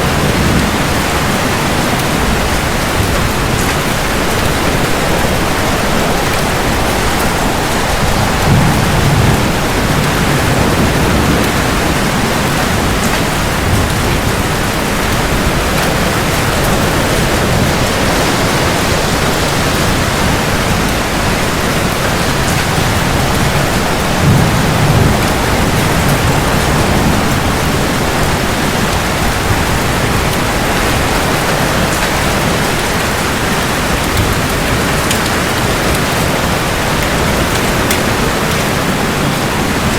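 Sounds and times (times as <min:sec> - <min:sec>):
heavy rain: 0:00.0 - 0:39.9
thunder rolling: 0:00.0 - 0:39.9.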